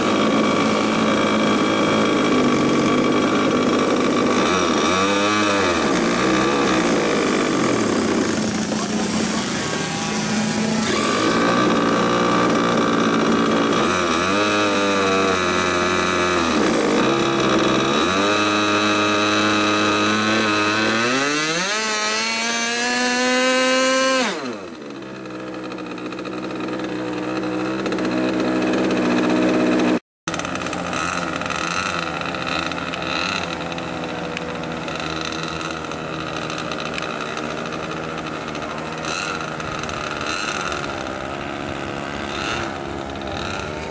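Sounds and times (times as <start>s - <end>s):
electric starter: 0.0s - 43.9s
model airplane engine revving: 0.0s - 43.9s
quieter engine running: 0.0s - 43.9s.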